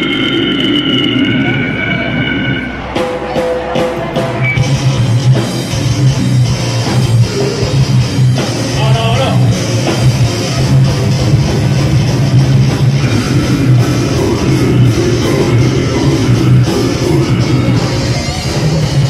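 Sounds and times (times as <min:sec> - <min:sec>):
death metal band playing live: 0:00.0 - 0:19.0.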